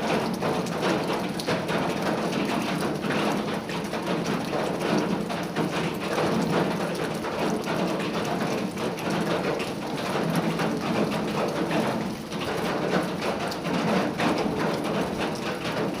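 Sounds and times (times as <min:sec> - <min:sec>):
rain on a metal roof: 0:00.0 - 0:16.0.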